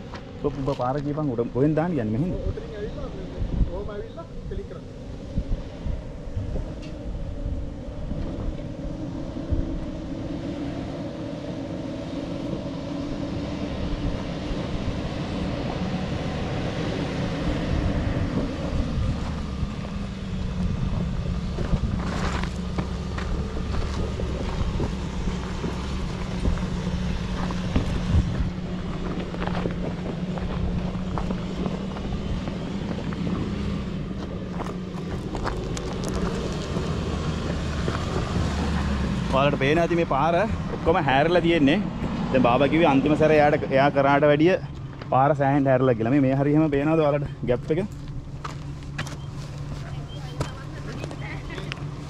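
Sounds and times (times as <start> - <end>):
off-road vehicle engine under load: 0.0 - 52.0.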